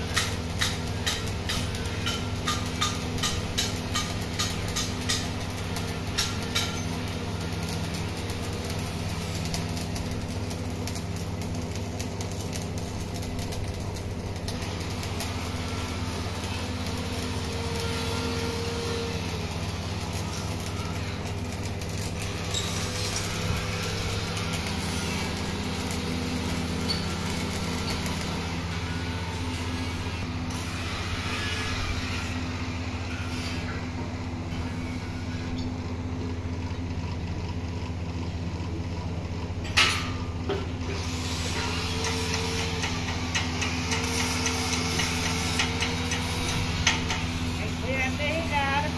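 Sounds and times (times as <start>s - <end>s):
arc welding crackling hiss: 0.0s - 48.9s.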